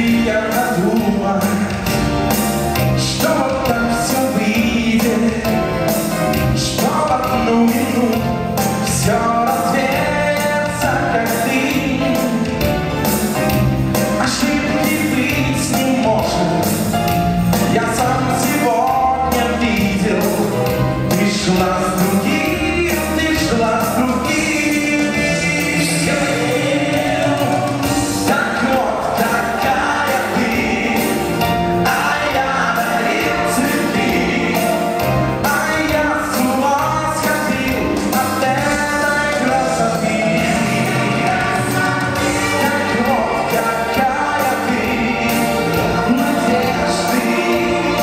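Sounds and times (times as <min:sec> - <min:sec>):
group vocal harmonies: 0:00.0 - 0:48.0
live rock band playing: 0:00.0 - 0:48.0
man singing lead vocals: 0:00.0 - 0:48.0.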